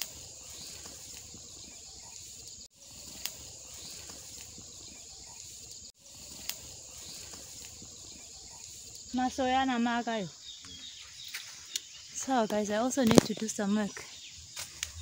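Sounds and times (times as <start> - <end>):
insects shrilling: 0.0 - 15.0.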